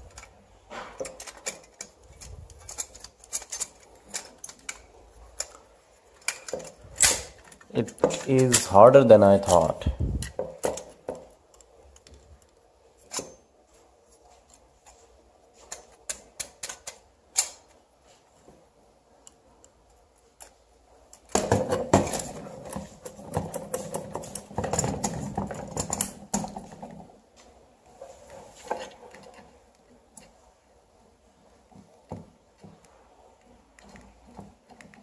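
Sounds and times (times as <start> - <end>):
rustling and scraping: 0.0 - 35.0.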